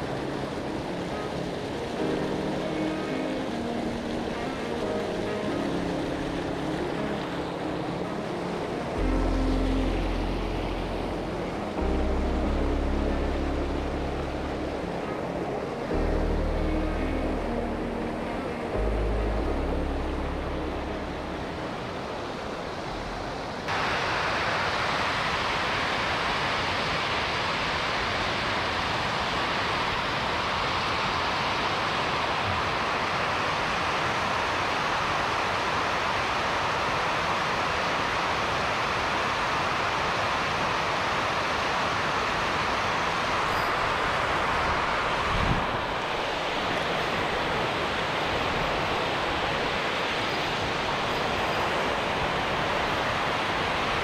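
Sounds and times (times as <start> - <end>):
water rushing over weir: 0.0 - 54.0.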